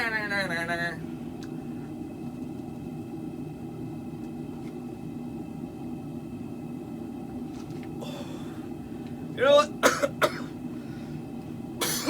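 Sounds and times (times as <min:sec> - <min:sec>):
forge burner rumbling: 0:00.0 - 0:12.0.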